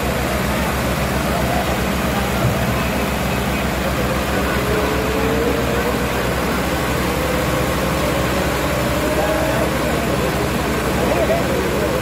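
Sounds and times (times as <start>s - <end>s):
diesel tractor engines chugging: 0.0s - 12.0s.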